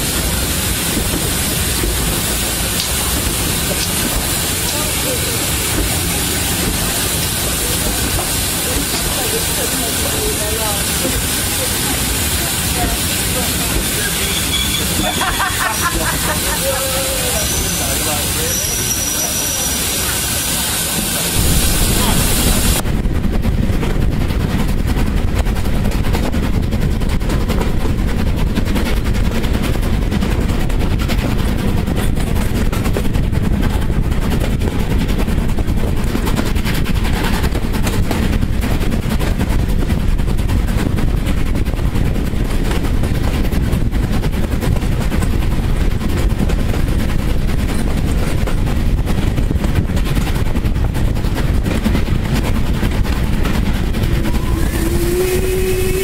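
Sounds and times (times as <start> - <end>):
steam locomotive exhaust beats: 0.0 - 56.0
train rumble: 0.0 - 56.0.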